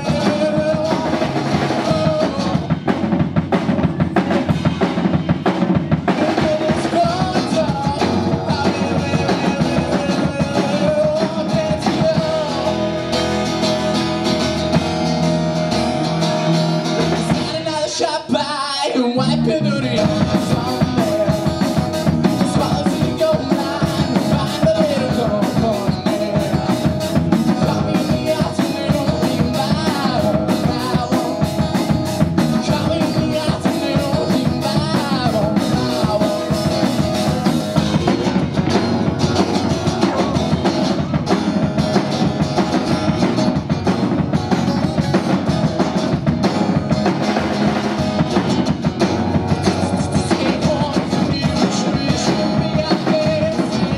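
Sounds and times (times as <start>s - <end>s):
man singing: 0.0s - 13.8s, 16.2s - 41.3s, 44.3s - 46.2s, 48.4s - 53.9s
drum kit beat: 0.0s - 18.4s, 19.3s - 53.9s
acoustic guitar: 0.0s - 53.9s.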